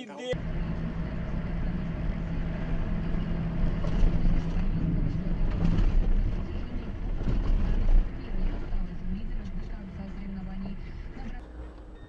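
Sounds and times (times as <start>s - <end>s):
car engine and road hum: 0.3s - 12.0s.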